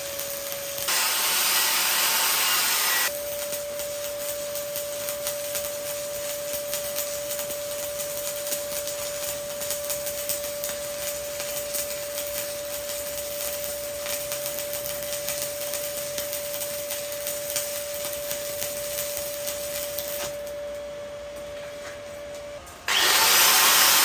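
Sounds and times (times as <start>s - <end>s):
welding arc crackling sizzle: 0.0s - 21.5s, 22.9s - 24.0s.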